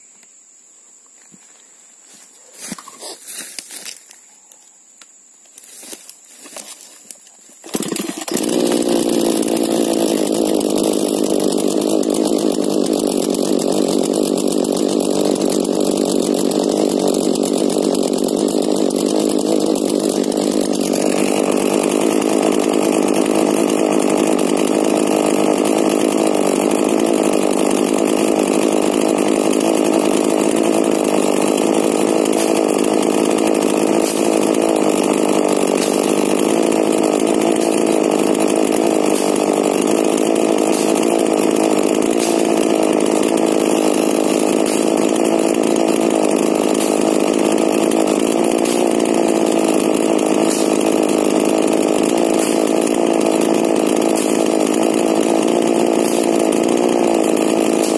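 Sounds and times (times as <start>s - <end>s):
chainsaw running: 1.4s - 4.6s, 5.5s - 57.9s.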